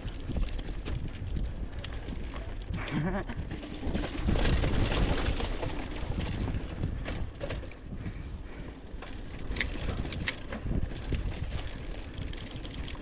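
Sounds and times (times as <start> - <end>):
bike chain rattling: 0.0 - 13.0
mountain bike rolling on dirt: 0.0 - 13.0.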